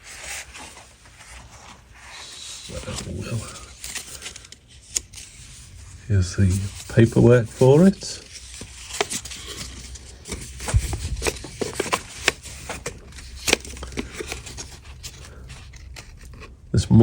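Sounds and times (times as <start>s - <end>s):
paper leaflet crinkling: 0.0s - 16.7s.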